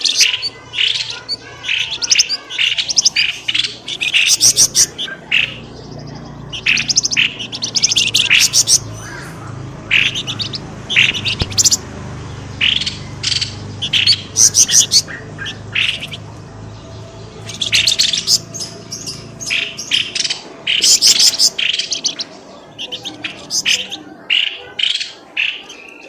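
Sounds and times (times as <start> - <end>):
bird chirping bursts: 0.0 - 26.0.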